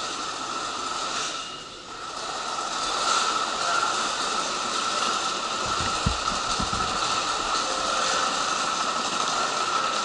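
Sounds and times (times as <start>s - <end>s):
electric train humming: 0.0s - 10.0s.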